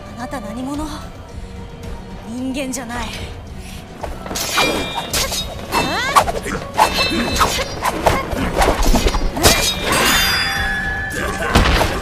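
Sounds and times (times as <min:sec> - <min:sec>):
dramatic background music: 0:00.0 - 0:12.0.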